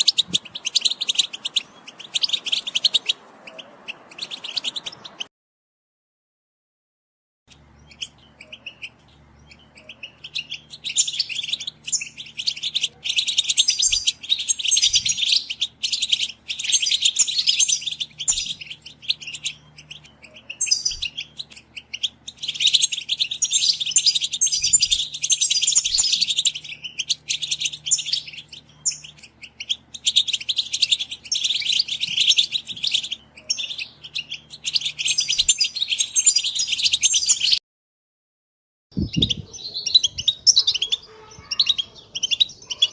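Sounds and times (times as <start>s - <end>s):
goldfinches twittering: 0.0s - 5.2s, 7.8s - 37.6s.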